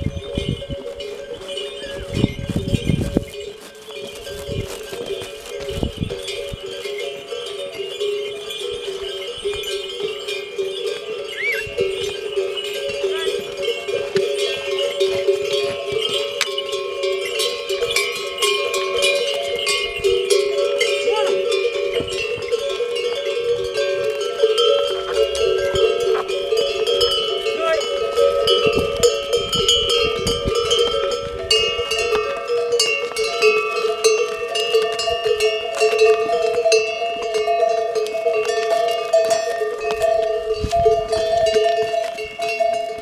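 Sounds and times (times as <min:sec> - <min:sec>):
bells ringing and clanking: 0:00.0 - 0:43.0.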